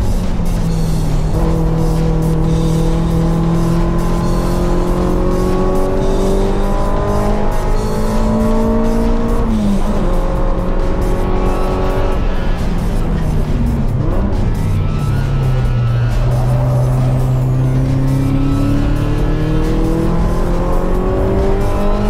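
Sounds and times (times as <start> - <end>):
background music: 0.0 - 22.0
car engine revving: 0.0 - 22.0.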